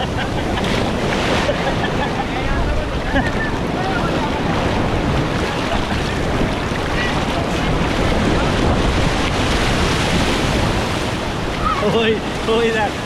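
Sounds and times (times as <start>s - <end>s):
sea surf washing in: 0.0s - 13.0s
wind buffeting microphone: 0.0s - 13.0s.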